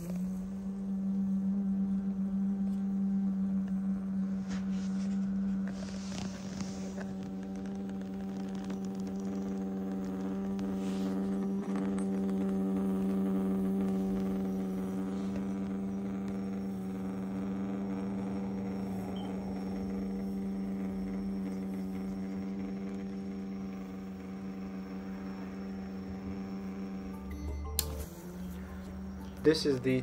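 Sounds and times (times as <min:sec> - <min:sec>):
water pump humming: 0:00.0 - 0:30.0.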